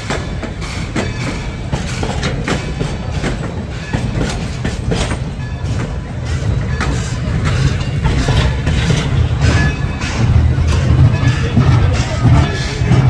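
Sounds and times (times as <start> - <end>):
train rolling low rumble: 0.0 - 13.0
wheels clacking over rail joints: 0.0 - 13.0.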